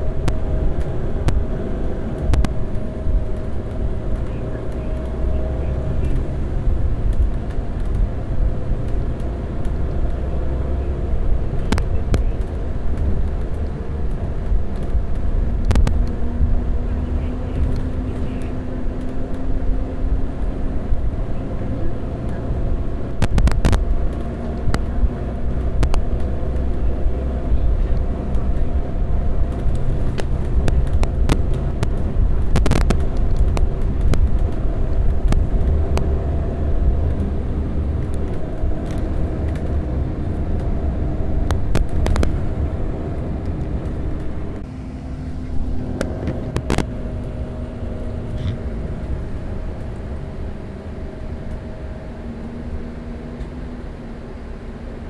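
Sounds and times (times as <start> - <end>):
bus body rumbling: 0.0 - 55.0
bus engine: 0.0 - 55.0.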